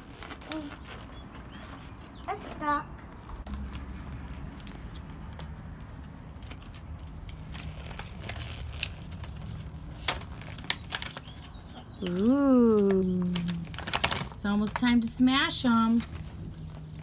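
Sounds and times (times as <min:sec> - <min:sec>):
plastic packaging crinkling: 0:00.0 - 0:02.2, 0:03.4 - 0:17.0.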